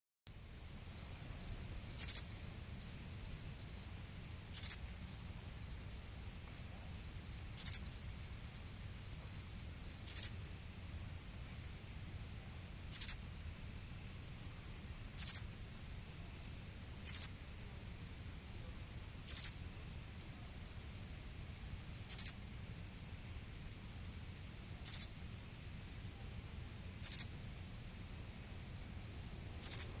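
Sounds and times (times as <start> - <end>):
crickets trilling: 0.3 - 30.0
loud hissy cricket chirp: 0.3 - 30.0.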